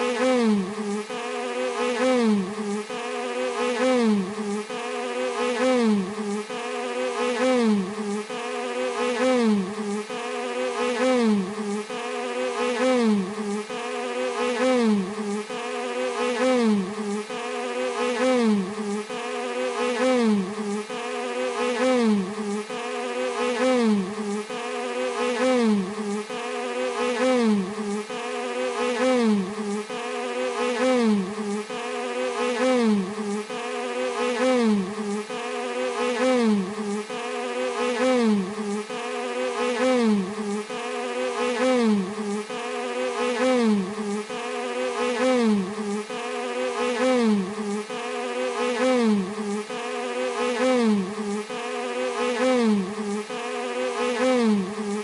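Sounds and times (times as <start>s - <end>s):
bee buzzing: 0.0s - 55.0s.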